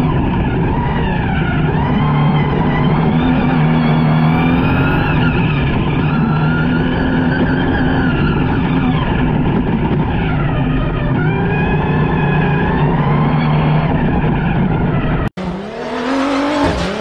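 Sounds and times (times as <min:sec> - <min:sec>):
truck engine running hard: 0:00.0 - 0:17.0
tyres on gravel road: 0:00.0 - 0:17.0.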